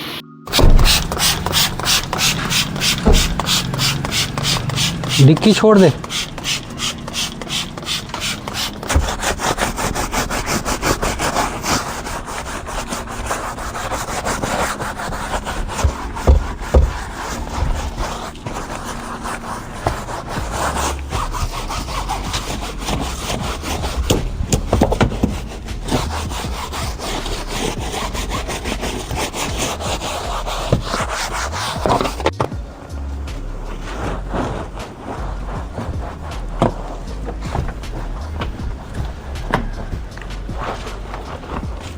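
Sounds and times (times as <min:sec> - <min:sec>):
hand scrubbing a surface: 0:00.0 - 0:32.4, 0:33.5 - 0:41.9.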